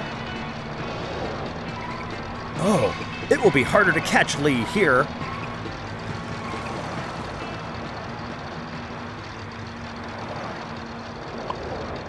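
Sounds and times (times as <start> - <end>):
vehicle engine and traffic rumble: 0.0 - 12.0.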